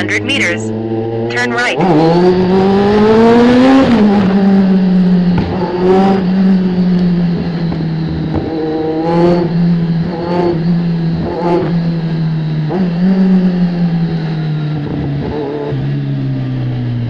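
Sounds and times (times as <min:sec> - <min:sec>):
motorcycle engine accelerating and cruising: 0:00.0 - 0:17.0.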